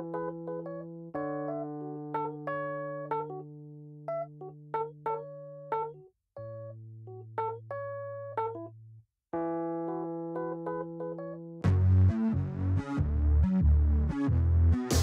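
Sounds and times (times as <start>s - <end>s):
keyboard background music: 0.0s - 8.7s, 9.4s - 15.0s.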